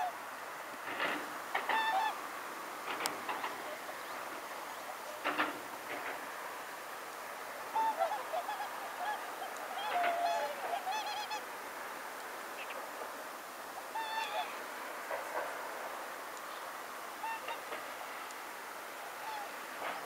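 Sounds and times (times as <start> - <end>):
swans honking: 0.0 - 20.0.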